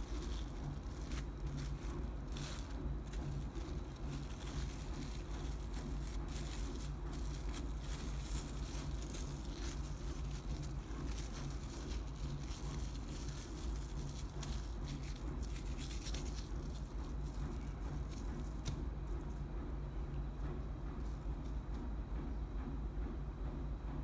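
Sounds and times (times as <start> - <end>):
cling film crinkling: 0.0 - 19.2.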